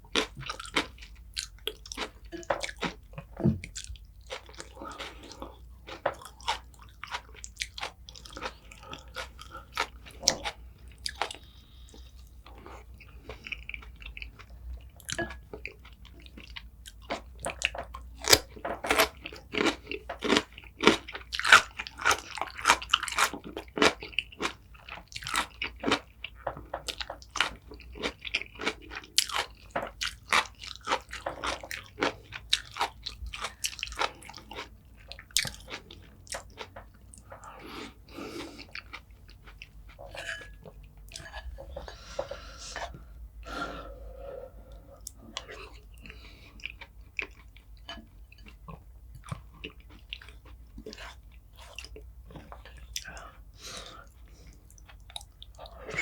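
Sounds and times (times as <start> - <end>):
chewing crunchy food: 0.0 - 43.1, 44.7 - 56.0.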